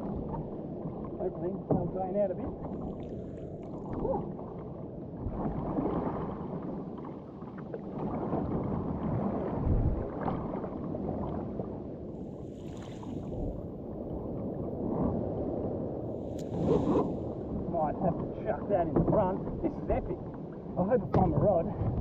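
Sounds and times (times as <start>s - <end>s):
water sloshing around kayak: 0.0s - 22.0s.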